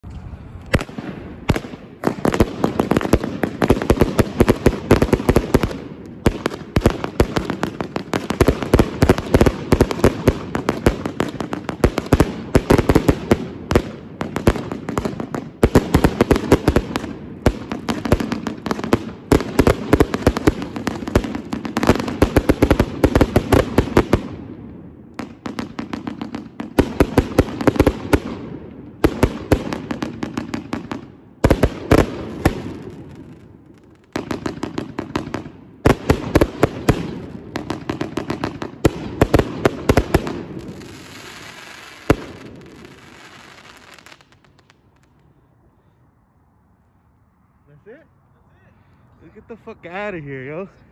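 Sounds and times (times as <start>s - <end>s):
fireworks bangs and crackling: 0.0s - 45.2s.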